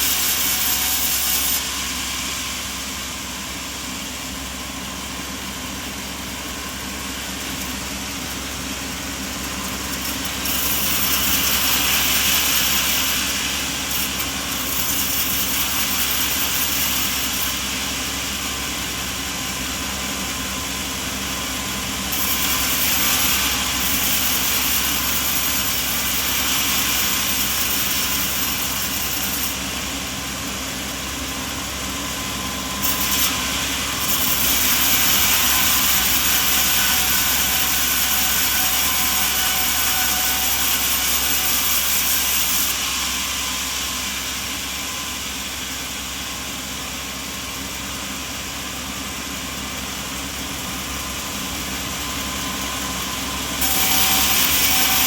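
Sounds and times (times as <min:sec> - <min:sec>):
engine running steadily: 0:01.6 - 0:36.5, 0:43.1 - 0:53.6.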